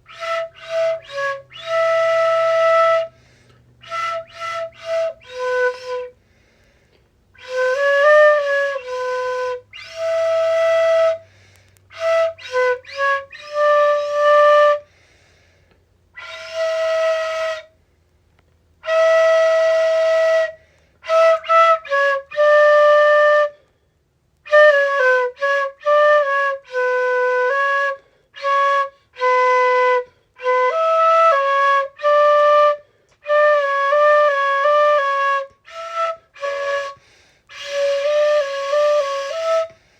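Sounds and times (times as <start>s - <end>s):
solo flute melody: 0.0s - 6.5s, 7.3s - 15.0s, 16.1s - 17.9s, 18.8s - 23.8s, 24.4s - 39.9s.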